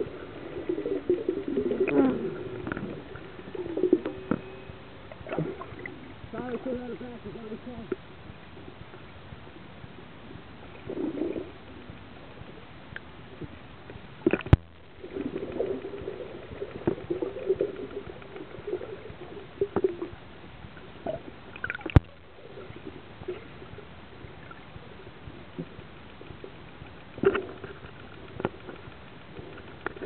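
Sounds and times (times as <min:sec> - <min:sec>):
water gurgling and sloshing: 0:00.0 - 0:30.0.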